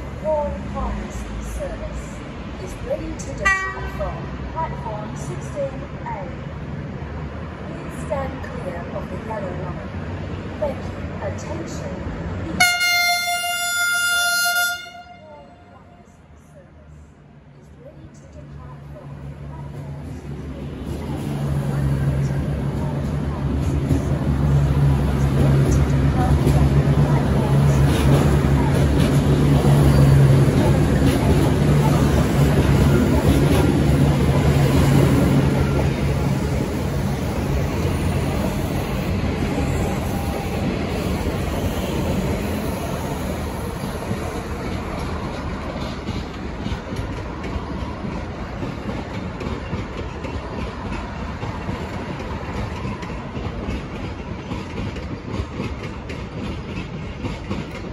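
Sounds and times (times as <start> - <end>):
train wheel and rail noise: 0.0 - 57.9.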